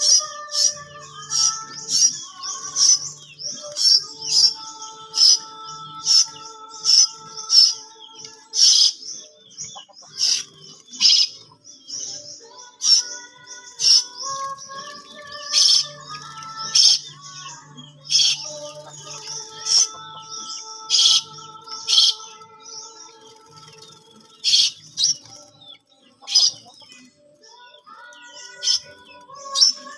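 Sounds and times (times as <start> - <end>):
background music with held notes: 0.0 - 29.9
starling sharp high chirps: 0.0 - 29.9.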